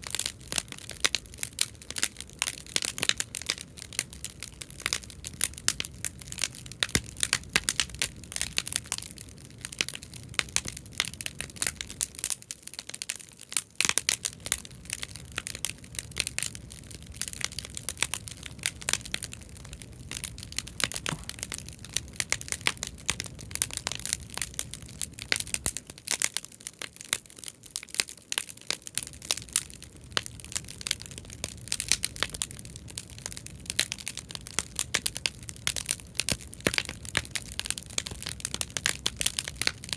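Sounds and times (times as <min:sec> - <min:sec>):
bonfire crackling and popping: 0:00.0 - 0:39.9
low sound of burning fire: 0:00.0 - 0:39.9.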